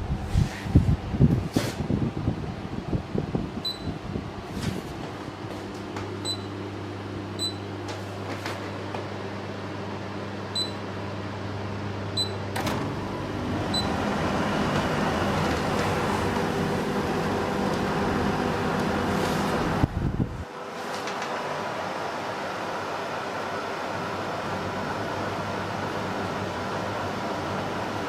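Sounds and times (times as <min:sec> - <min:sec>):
air conditioner humming: 0:00.0 - 0:28.0.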